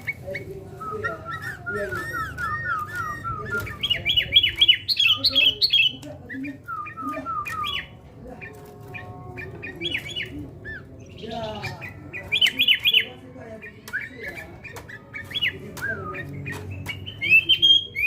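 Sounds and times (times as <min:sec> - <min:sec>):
bulbul chirping phrases: 0:00.0 - 0:18.0.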